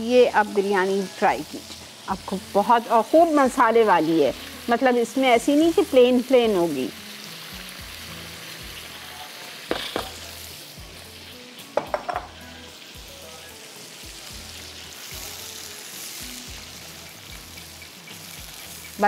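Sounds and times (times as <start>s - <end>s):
food sizzling in butter and oil: 0.0s - 19.0s.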